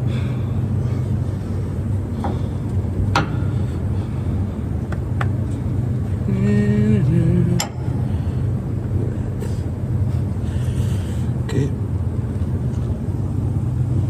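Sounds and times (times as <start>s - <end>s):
low mechanical drone: 0.0s - 14.0s
short steady whine: 0.0s - 14.0s.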